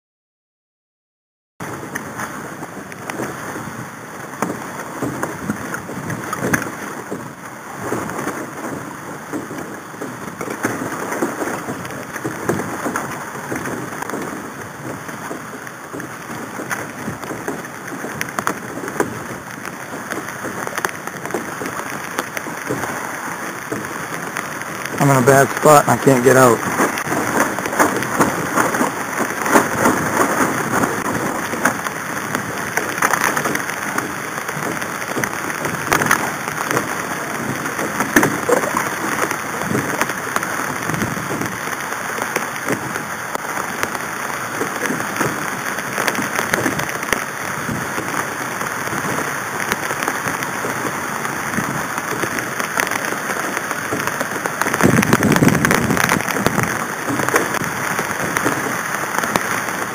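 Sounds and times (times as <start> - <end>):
wind buffeting microphone: 1.6 - 41.8, 42.4 - 59.9
water splashing against hulls: 1.6 - 59.9.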